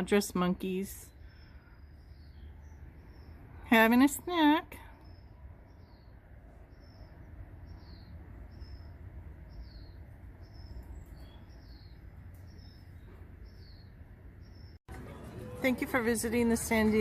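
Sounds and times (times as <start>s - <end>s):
small bird chirping: 0.7s - 14.8s.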